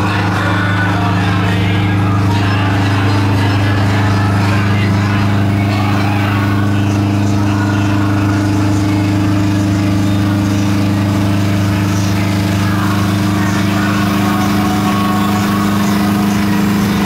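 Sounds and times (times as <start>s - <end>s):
engine low drone: 0.0s - 17.0s.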